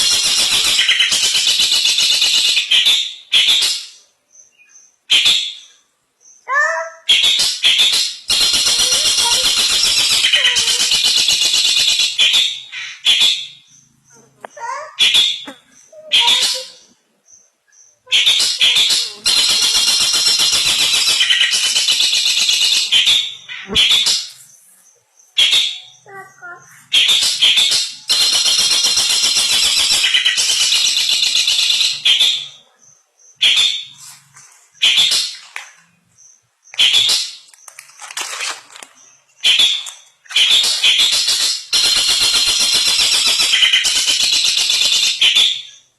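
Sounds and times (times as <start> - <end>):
bird singing scratchy chatter: 0.0 - 45.9.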